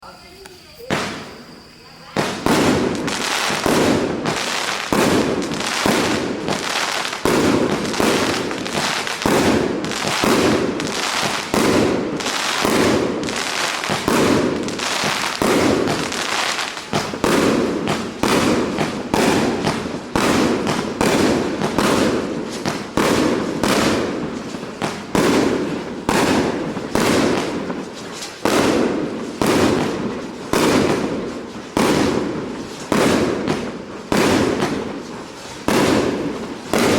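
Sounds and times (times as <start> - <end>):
fireworks shots: 0.0 - 36.9.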